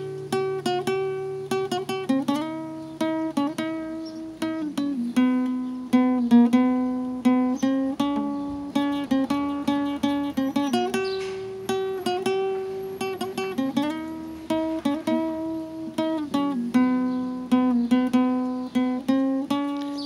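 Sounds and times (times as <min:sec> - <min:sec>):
acoustic guitar picked melody: 0:00.0 - 0:20.0.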